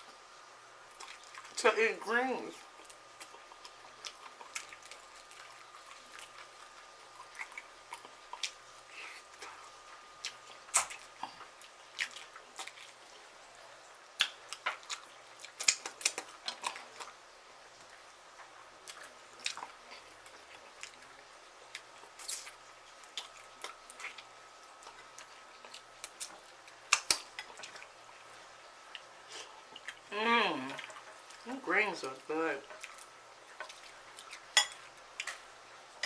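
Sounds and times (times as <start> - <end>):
chewing with wet lip smacks: 0.9 - 1.6, 2.7 - 13.2, 14.1 - 17.2, 17.8 - 30.1, 32.7 - 35.4.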